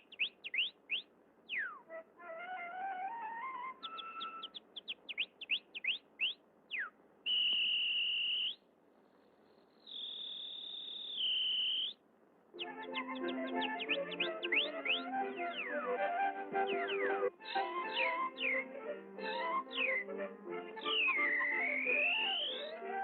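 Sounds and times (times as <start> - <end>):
whistled bird song: 0.0 - 8.7, 9.4 - 12.0, 12.6 - 23.0.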